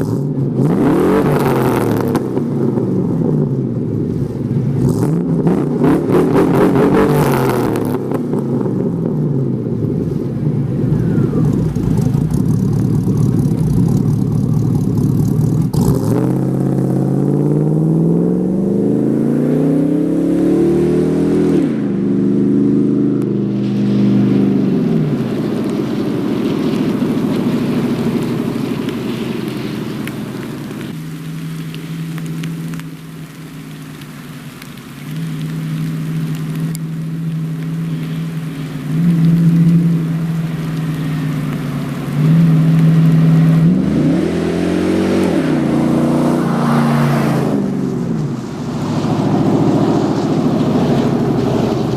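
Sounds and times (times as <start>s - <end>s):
engine revving under acceleration: 0.0s - 32.8s, 35.7s - 51.9s.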